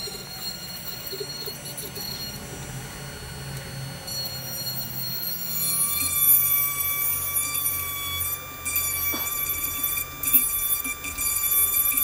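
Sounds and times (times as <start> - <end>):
burr bit grinding wood: 0.0 - 12.0
electric rotary tool whining: 0.0 - 12.0.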